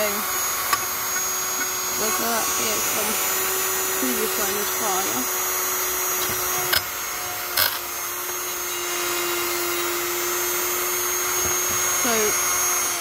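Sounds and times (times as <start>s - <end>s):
rotary tool grinding brass: 0.0s - 13.0s.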